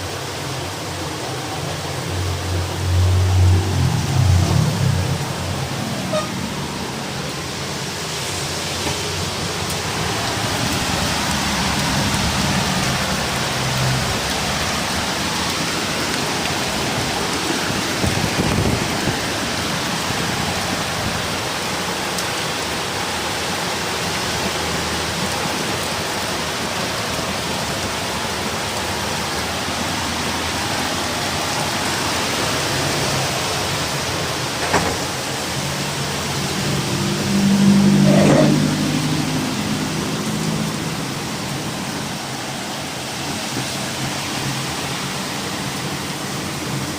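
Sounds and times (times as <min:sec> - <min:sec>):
heavy rain: 0:00.0 - 0:46.9
wind: 0:00.0 - 0:46.9.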